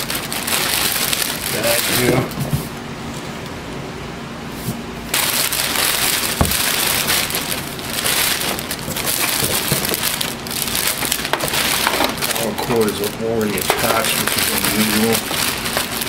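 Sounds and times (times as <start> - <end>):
plastic bag crinkling: 0.0 - 2.6, 5.1 - 16.0.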